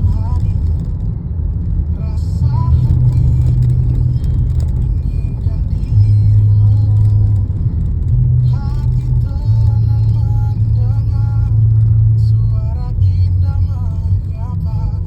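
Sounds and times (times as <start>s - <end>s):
car engine drone: 0.0s - 15.0s
road rumble: 0.0s - 15.0s.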